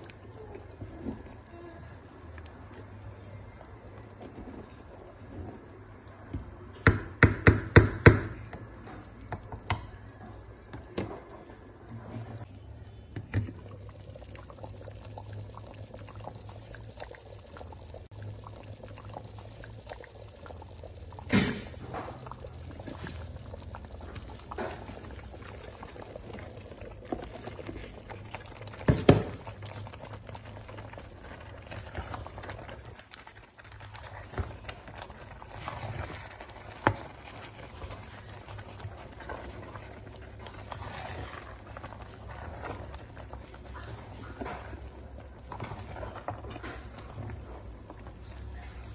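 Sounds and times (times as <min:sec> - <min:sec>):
soup bubbling in a pot: 0:00.0 - 0:48.9.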